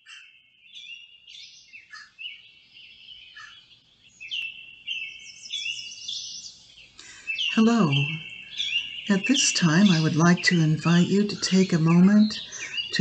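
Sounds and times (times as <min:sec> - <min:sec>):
songbirds chirping and twittering: 0:00.0 - 0:13.0.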